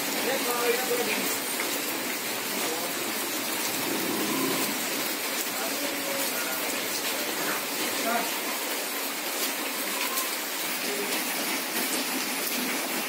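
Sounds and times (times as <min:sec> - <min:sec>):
heavy rain on floodwater: 0:00.0 - 0:13.0.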